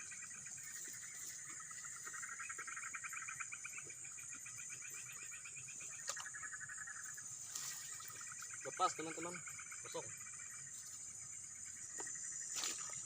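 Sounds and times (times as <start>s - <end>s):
frogs fast pulsed trill: 0.0s - 13.0s
high-pitched insect buzz: 0.0s - 13.0s.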